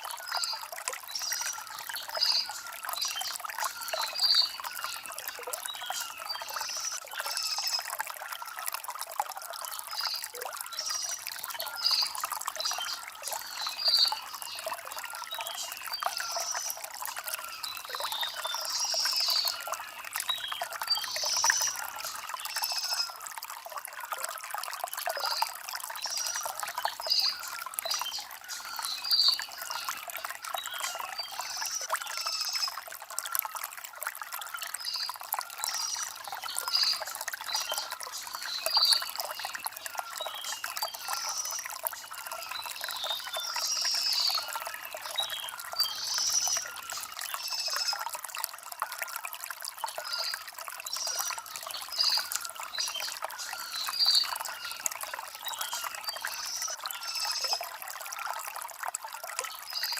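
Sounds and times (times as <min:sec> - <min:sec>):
stream trickling over stones: 0:00.0 - 0:59.9.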